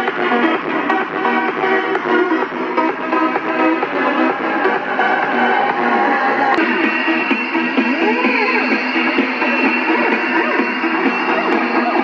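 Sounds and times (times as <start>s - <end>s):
loud music through car speakers: 0.0s - 12.0s.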